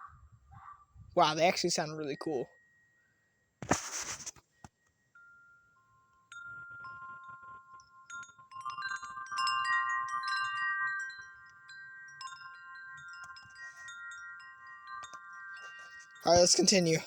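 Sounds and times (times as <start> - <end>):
wind chimes ringing: 1.3 - 3.1, 5.1 - 17.0.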